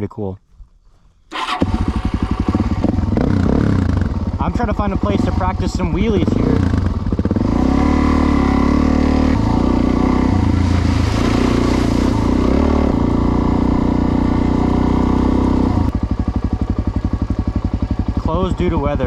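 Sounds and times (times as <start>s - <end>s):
motorcycle engine running: 1.3s - 19.0s.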